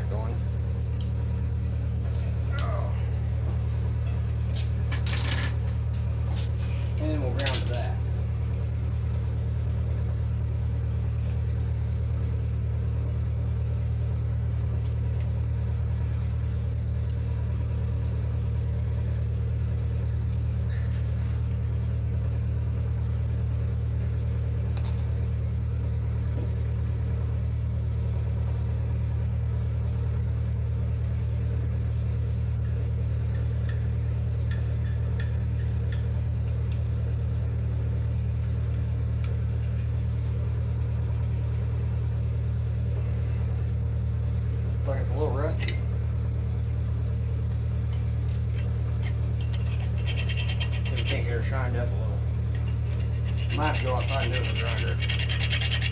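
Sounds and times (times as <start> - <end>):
engine humming steadily: 0.0 - 55.9.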